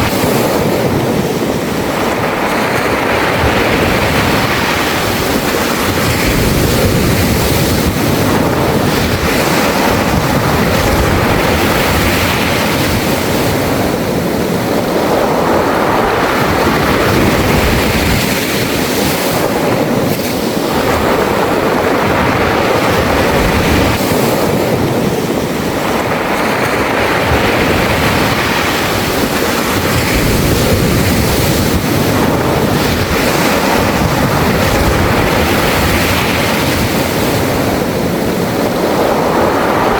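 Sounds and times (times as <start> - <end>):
waves washing over pebbles: 0.0 - 39.9.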